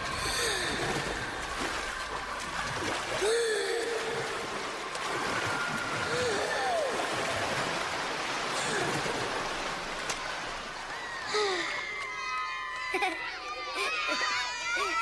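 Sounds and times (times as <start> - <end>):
pool water splashing: 0.0 - 15.0.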